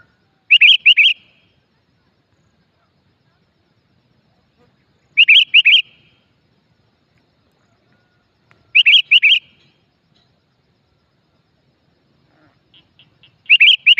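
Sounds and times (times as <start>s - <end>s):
songbird high chirps: 0.0s - 13.9s.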